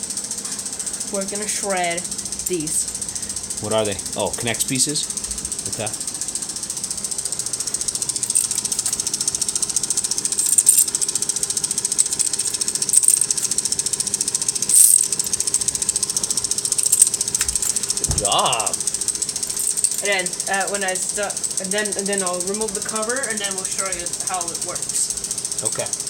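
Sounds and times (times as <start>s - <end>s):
toy shredder gears clicking: 0.0s - 26.0s.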